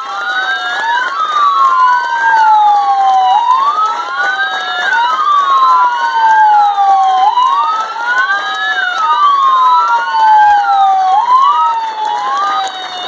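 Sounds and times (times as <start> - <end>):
police sirens wailing: 0.0 - 13.0.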